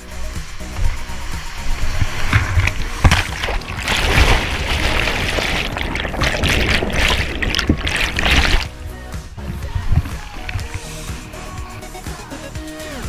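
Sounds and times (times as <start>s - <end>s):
whitewater rushing: 0.0s - 11.0s
sharp water splashes: 0.0s - 11.2s
water bubbling: 0.1s - 11.2s.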